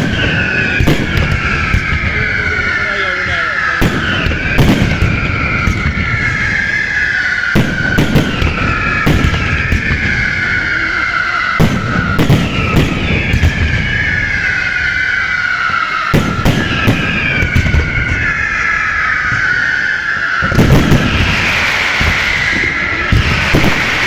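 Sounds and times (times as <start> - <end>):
fireworks banging: 0.0 - 24.0
high falling whistles: 0.0 - 24.0.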